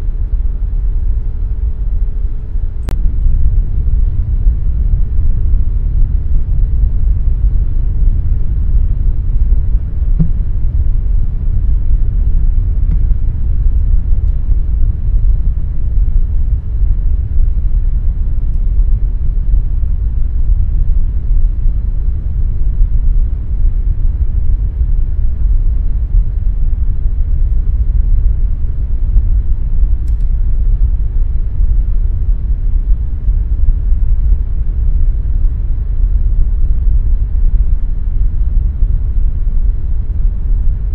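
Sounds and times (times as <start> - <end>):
air conditioner deep rumble: 0.0 - 40.9.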